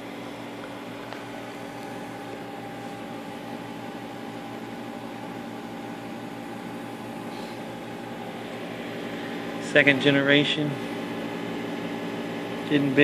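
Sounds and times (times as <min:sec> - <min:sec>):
aquarium equipment hum: 0:00.0 - 0:13.0.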